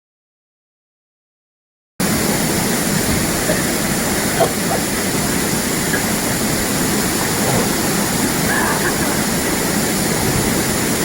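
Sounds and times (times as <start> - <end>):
waterfall rushing: 2.0 - 11.0.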